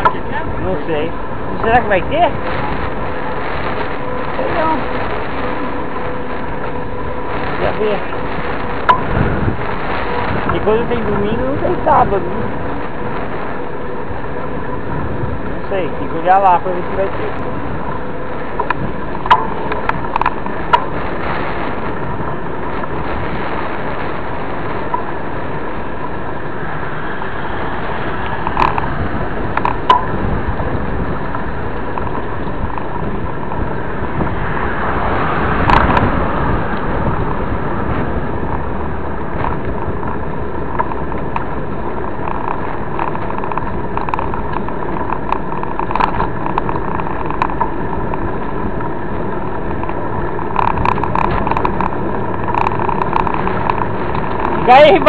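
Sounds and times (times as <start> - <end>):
bike rolling road noise: 0.0 - 55.0
wind: 0.0 - 55.0.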